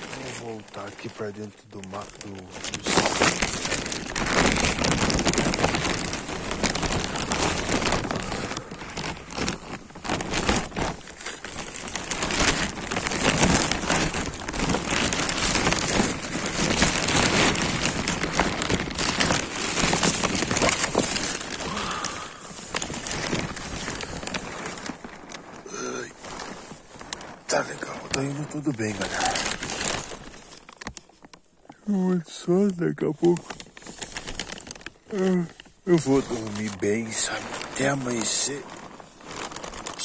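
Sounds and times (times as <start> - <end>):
plastic sheeting crinkling: 0.0 - 40.0.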